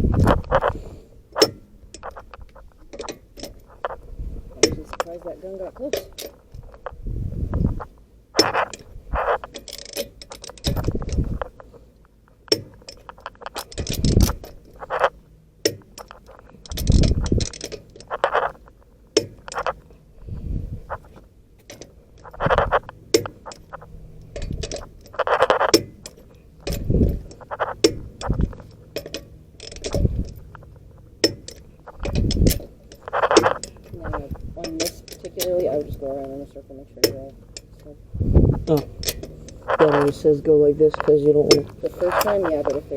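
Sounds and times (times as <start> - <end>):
metal clinks and ratcheting: 0.0 - 11.8, 12.4 - 20.0, 20.9 - 42.9.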